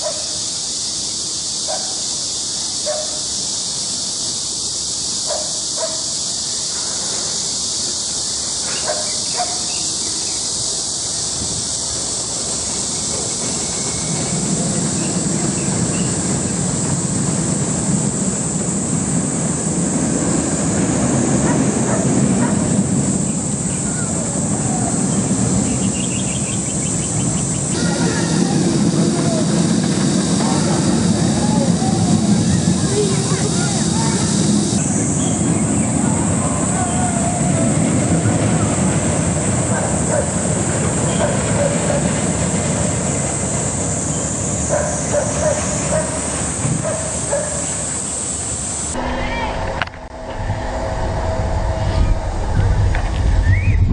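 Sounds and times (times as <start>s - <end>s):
roller coaster rumbling on track: 0.0s - 53.9s.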